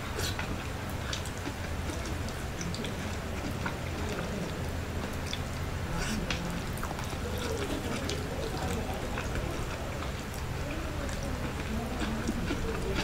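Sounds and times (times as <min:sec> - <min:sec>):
steady low hum: 0:00.0 - 0:13.0
person chewing: 0:00.1 - 0:13.0.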